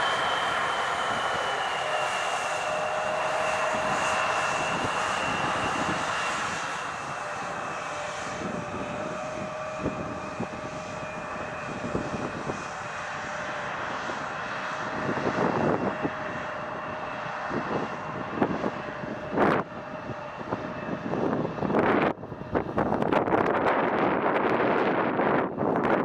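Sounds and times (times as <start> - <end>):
airplane engines roaring: 0.0 - 26.0.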